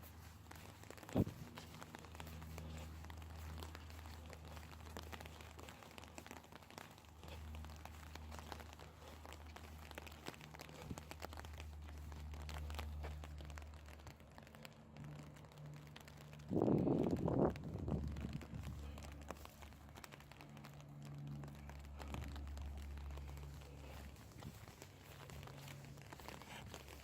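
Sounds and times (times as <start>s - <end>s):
light rain tapping: 0.0s - 27.0s
low steady hum: 0.0s - 27.0s.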